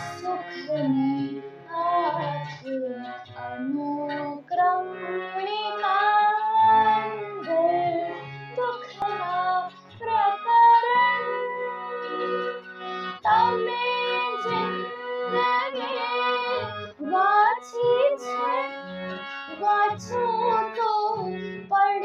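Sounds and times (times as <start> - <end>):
woman singing: 0.0 - 18.8, 19.5 - 22.0
instrumental accompaniment: 0.0 - 22.0.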